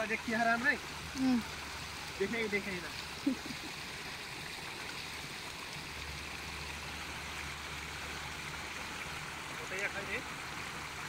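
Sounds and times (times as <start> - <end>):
water flowing over slats: 0.0 - 11.0.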